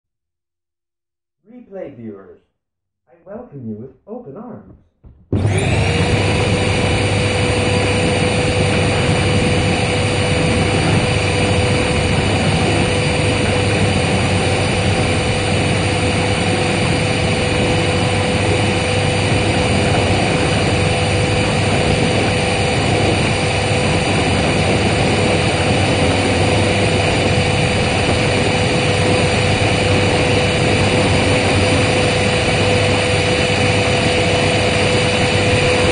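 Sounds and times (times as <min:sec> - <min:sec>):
vacuum cleaner running: 0:05.0 - 0:35.9.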